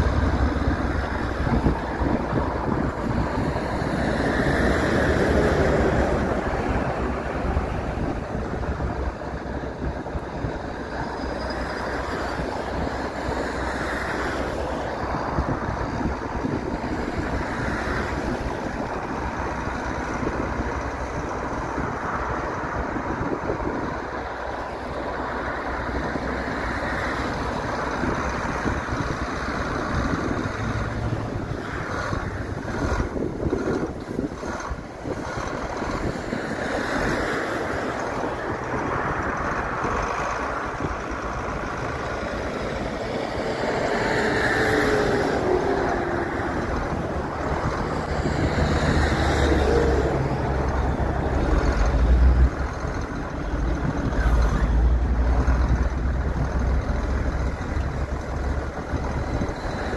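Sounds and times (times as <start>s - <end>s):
tractor diesel engine running: 0.0s - 59.9s
wind rumble on microphone: 0.0s - 59.9s.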